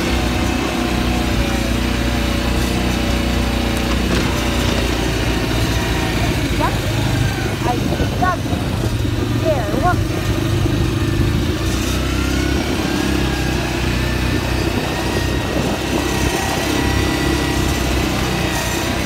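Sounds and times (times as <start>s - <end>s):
quad engine running: 0.0s - 19.0s.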